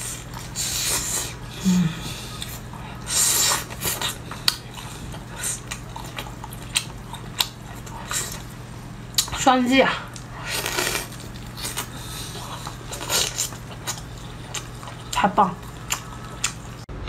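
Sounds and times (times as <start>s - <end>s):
eating and slurping: 0.0s - 16.9s.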